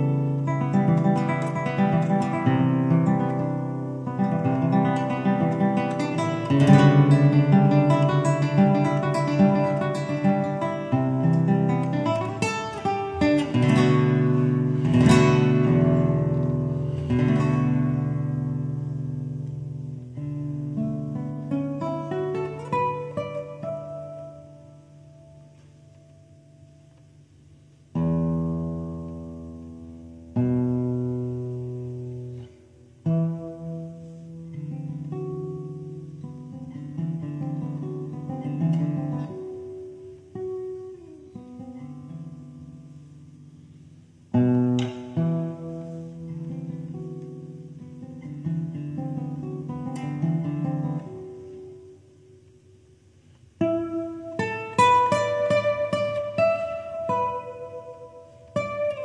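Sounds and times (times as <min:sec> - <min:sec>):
plucked guitar notes: 0:00.0 - 0:27.3, 0:27.9 - 0:59.0
classical guitar chords ringing: 0:00.0 - 0:59.0.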